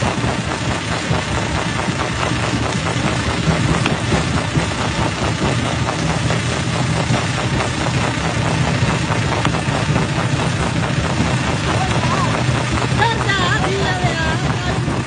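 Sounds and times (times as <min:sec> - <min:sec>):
rattle and crunch of rock: 0:00.0 - 0:15.0
stone crusher running: 0:00.0 - 0:15.0.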